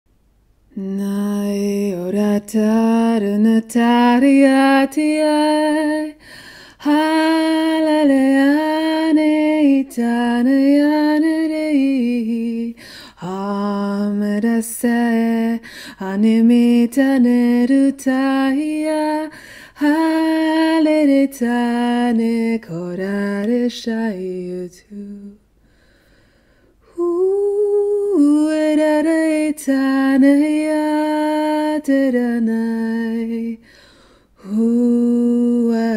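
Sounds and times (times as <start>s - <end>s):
woman singing unaccompanied: 0.7s - 25.4s, 26.8s - 33.6s, 34.4s - 35.9s.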